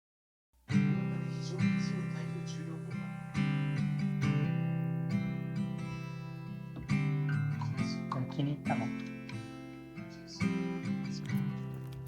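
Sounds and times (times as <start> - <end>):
acoustic guitar strumming chords: 0.7 - 12.0.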